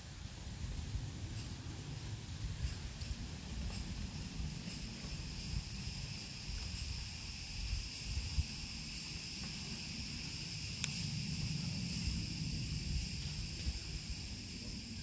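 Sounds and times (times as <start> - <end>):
forest insects chorus: 0.0 - 15.0.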